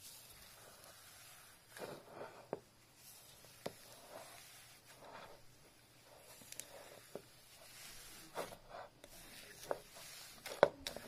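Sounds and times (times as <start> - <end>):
microbeads rustling: 0.0 - 11.0.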